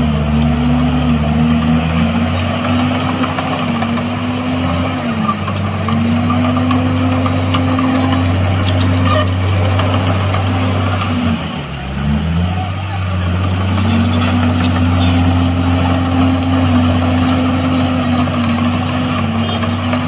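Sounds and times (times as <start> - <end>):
heavy diesel engine under load: 0.0 - 20.0.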